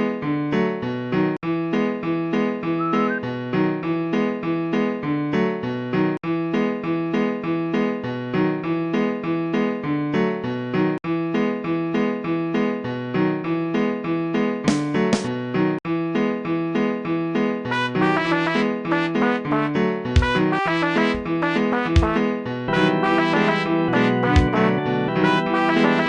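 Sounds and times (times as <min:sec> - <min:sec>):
piano tune: 0:00.0 - 0:26.0.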